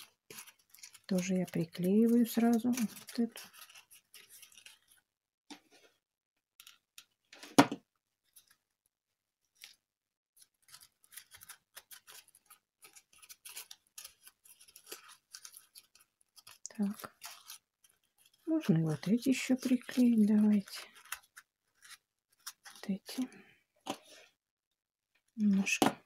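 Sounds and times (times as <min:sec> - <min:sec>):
hands rustling craft foam: 0:00.0 - 0:24.4.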